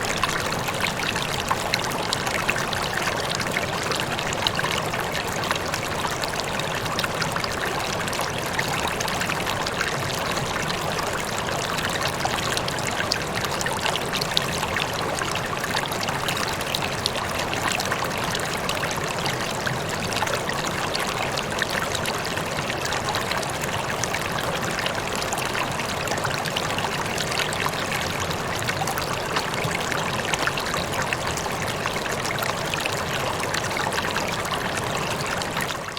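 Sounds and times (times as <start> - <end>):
water rippling and trickling: 0.0 - 35.9.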